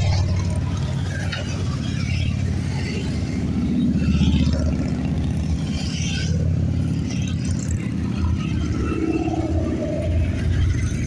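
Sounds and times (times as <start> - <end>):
motorcycles riding past: 0.0 - 11.0.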